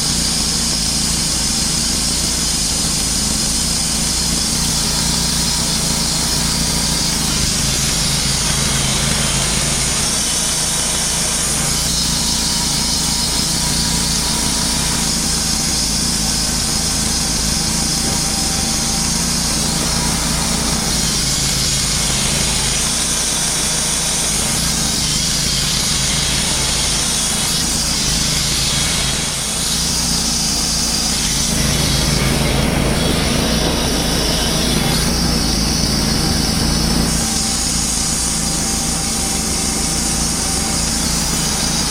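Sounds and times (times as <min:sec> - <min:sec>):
band sawmill engine running: 0:00.0 - 0:41.9
blade cutting log hiss: 0:00.0 - 0:41.9.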